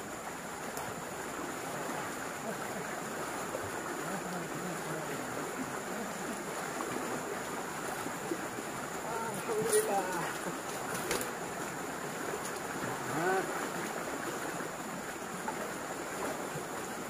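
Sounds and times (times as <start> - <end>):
river water rushing over rapids: 0.0 - 17.0.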